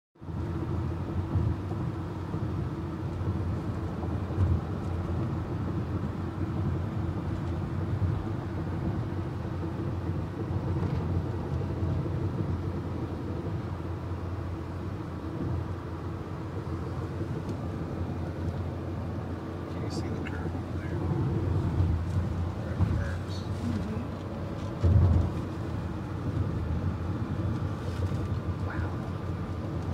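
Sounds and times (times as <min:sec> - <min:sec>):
car tyres and engine rumble: 0:00.2 - 0:29.9.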